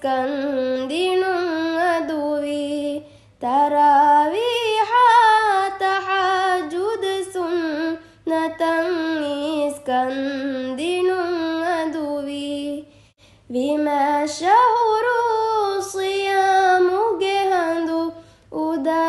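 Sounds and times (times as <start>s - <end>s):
woman singing slowly: 0.0s - 12.9s, 13.5s - 19.0s.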